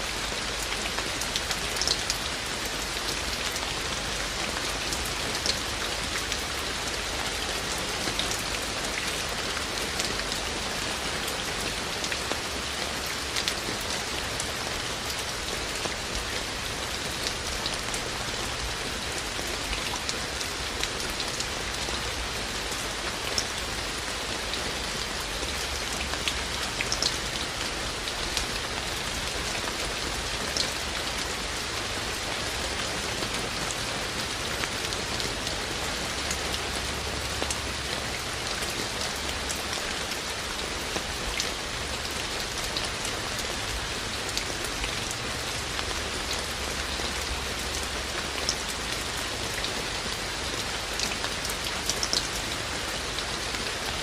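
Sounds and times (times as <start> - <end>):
raindrops ticking on a surface: 0.1 - 54.0.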